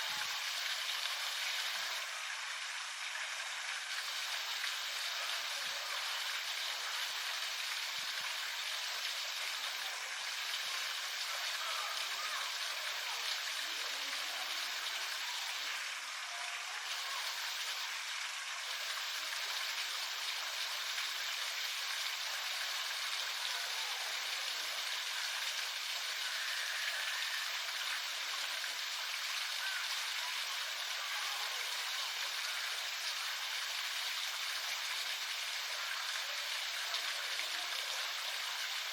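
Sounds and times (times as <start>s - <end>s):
water hissing steadily: 0.0s - 38.9s.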